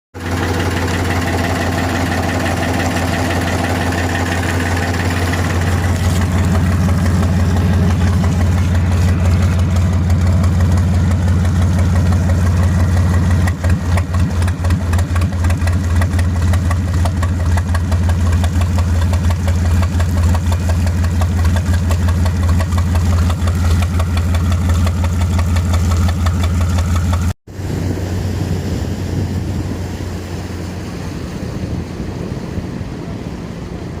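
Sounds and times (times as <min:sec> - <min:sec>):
boat engine humming: 0:00.2 - 0:34.0.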